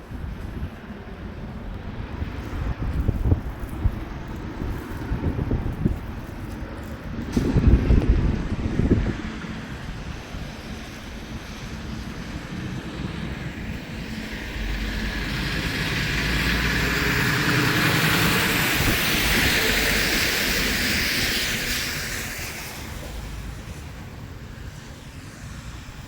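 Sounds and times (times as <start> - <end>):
vehicle passing by: 1.9 - 26.0.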